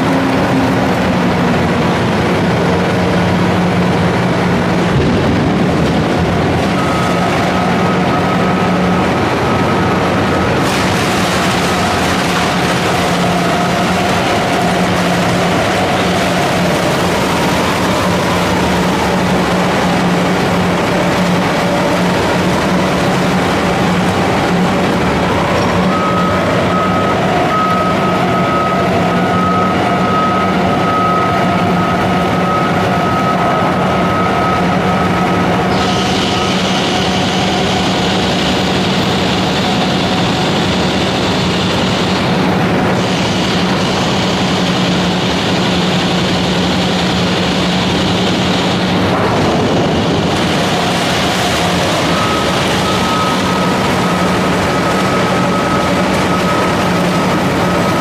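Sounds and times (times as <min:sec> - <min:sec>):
diesel shredder engine under load: 0:00.0 - 0:58.0
thin whine: 0:00.0 - 0:58.0.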